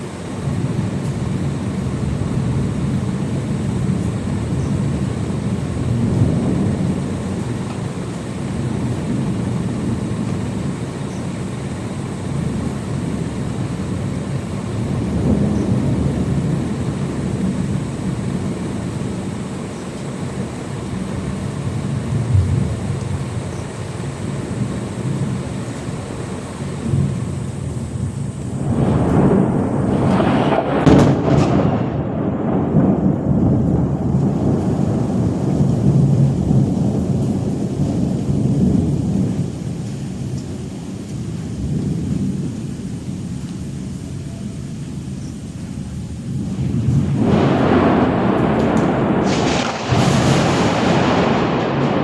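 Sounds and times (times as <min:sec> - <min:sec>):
rolling thunder rumble: 0:00.0 - 0:52.0.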